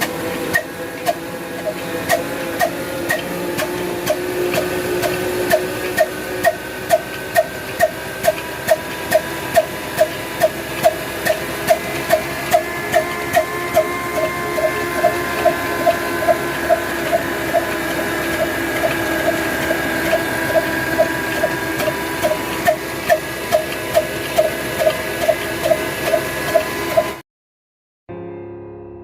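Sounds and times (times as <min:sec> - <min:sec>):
diesel engine running: 0:00.0 - 0:27.2.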